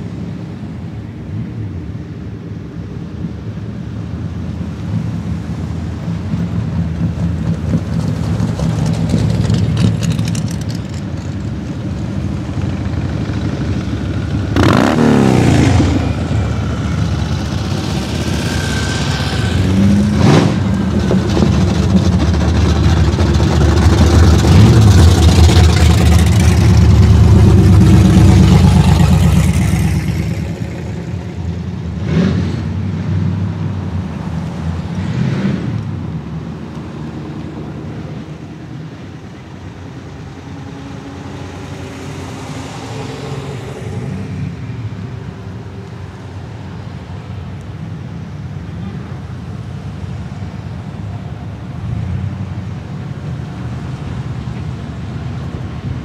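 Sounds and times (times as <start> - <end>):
cars driving past rumbling: 0.0 - 56.0.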